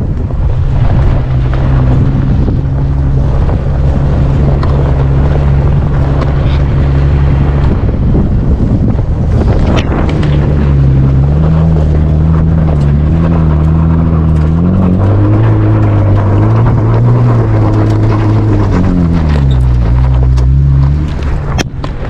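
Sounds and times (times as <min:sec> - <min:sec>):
vehicle engine driving: 0:00.0 - 0:22.0.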